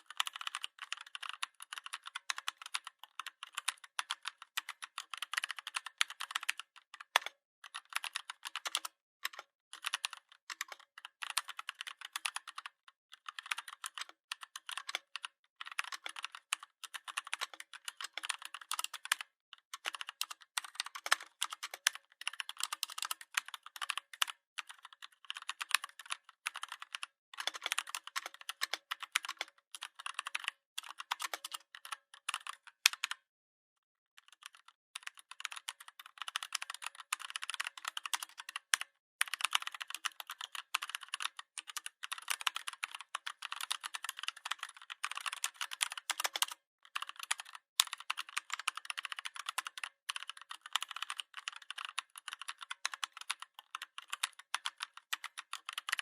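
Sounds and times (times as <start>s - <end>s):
computer keyboard typing: 0.0s - 33.3s, 34.2s - 56.0s.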